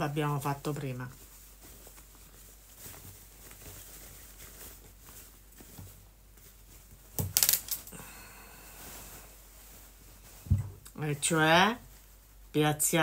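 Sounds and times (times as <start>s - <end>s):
fabric rustling: 0.0s - 13.0s.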